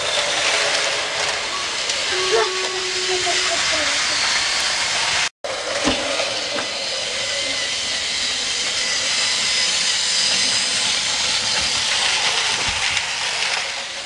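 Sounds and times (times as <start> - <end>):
hissing whirring noise: 0.0 - 14.0.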